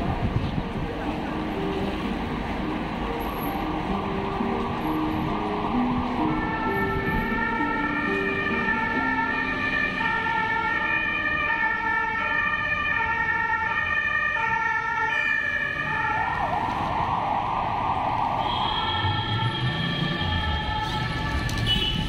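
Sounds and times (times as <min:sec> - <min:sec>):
two-tone siren: 0:04.3 - 0:22.0.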